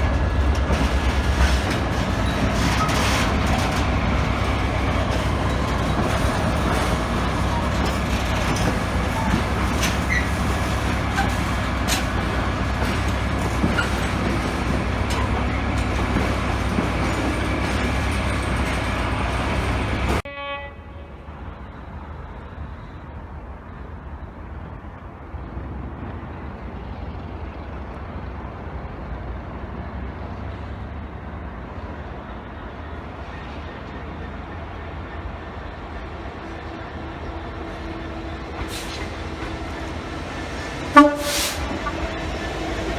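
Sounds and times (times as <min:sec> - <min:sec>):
train rumbling with clicks: 0:00.0 - 0:20.3, 0:21.2 - 0:42.9.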